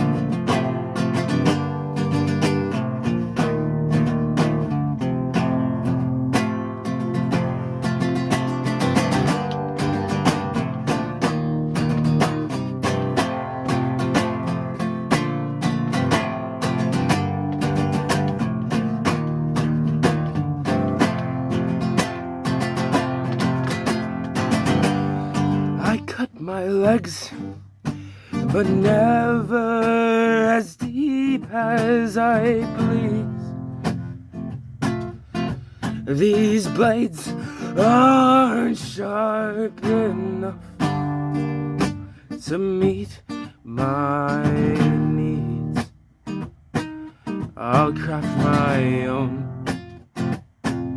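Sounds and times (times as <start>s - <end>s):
acoustic guitar strumming chords: 0.0s - 50.9s.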